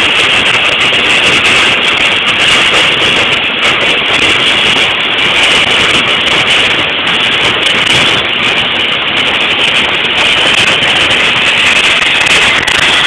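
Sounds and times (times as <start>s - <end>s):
cutting torch hissing: 0.0s - 13.0s.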